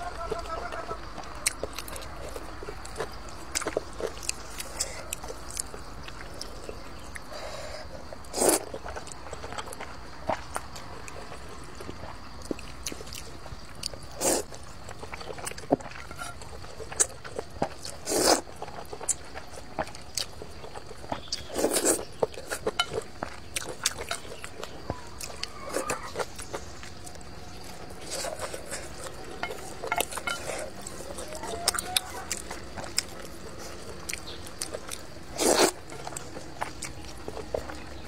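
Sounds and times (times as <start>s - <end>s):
wet chewing: 0.0s - 38.0s.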